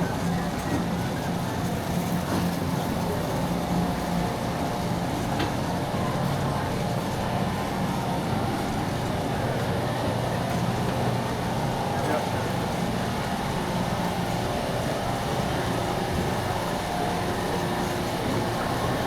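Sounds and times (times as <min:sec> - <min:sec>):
distant voices: 0:00.0 - 0:19.0.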